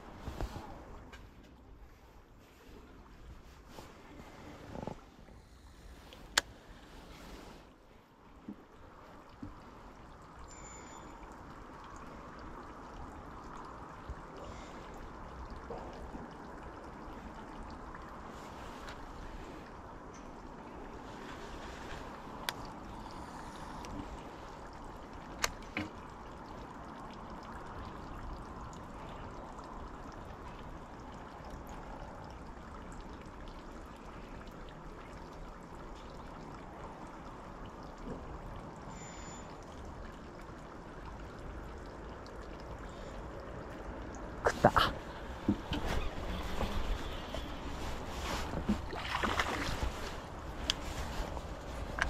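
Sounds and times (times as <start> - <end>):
faint outdoor background noise: 0.0 - 52.0.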